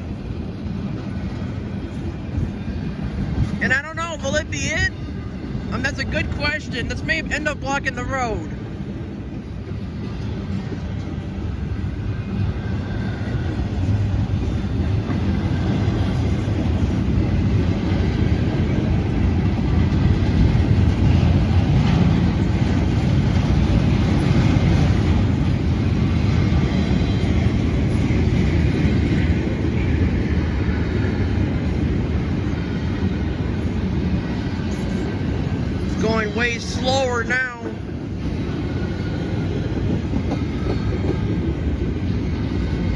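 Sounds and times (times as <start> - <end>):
train wheels rumbling on rail: 0.0 - 42.9
rattle and clatter of cars: 5.7 - 42.9.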